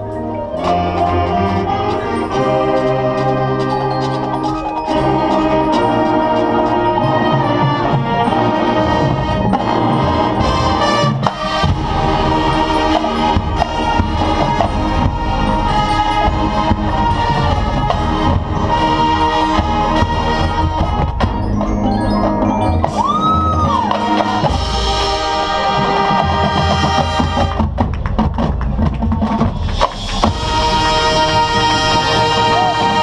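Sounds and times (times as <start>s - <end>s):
marching band playing: 0.0s - 33.0s.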